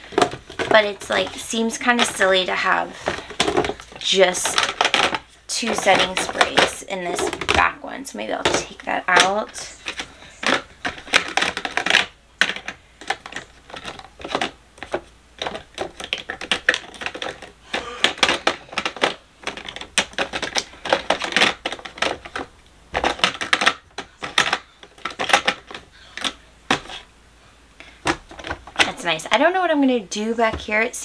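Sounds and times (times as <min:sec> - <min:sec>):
plastic containers clicking together: 0:00.0 - 0:27.1, 0:28.0 - 0:29.5.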